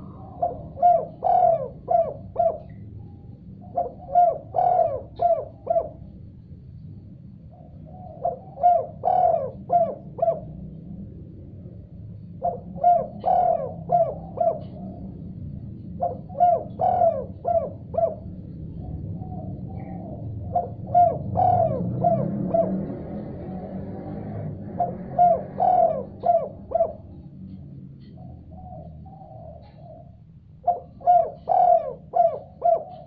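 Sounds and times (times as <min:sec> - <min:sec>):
dove cooing: 0:00.0 - 0:06.2, 0:07.5 - 0:10.8, 0:12.2 - 0:33.0
steady low hum: 0:00.0 - 0:33.0.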